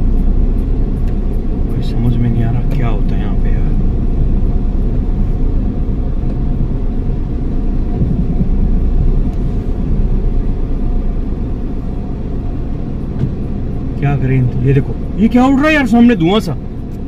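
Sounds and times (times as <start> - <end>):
car driving on rough dirt track: 0.0 - 17.0.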